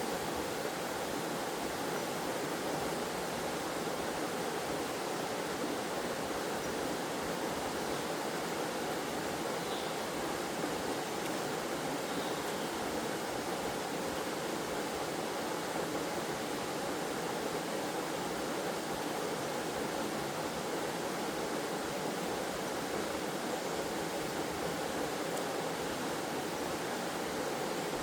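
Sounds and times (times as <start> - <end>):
waterfall and stream rushing: 0.0 - 28.0.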